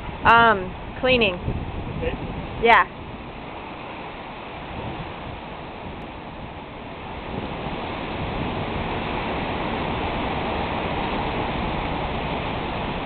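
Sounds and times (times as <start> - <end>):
wind and rain roaring: 0.0 - 13.0
wind buffeting microphone: 0.0 - 13.0.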